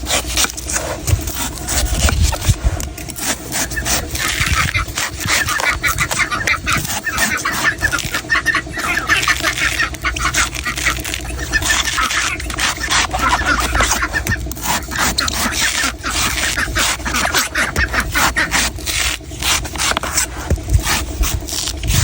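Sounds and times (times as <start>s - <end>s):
knife scraping and chopping coconut: 0.0s - 22.0s.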